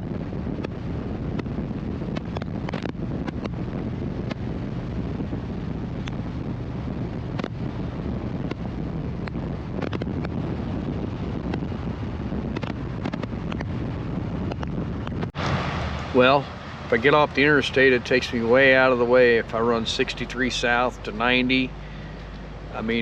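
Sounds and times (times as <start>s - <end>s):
motorcycle engine drone: 0.0s - 23.0s
wind buffeting microphone: 0.0s - 23.0s.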